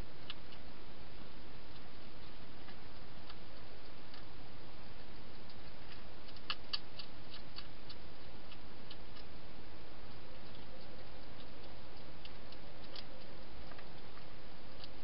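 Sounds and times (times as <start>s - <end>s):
hedgehog chewing dry food: 0.0s - 15.0s.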